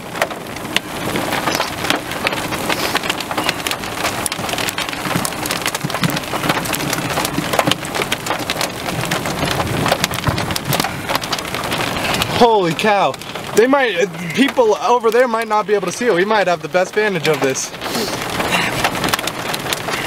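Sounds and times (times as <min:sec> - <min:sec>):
raindrops ticking near microphone: 0:00.0 - 0:20.0
steady rain: 0:00.0 - 0:20.0.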